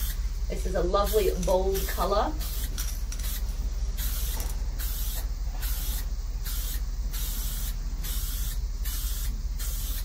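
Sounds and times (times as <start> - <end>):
aerosol spray paint bursts: 0.0 - 0.2, 0.8 - 10.0.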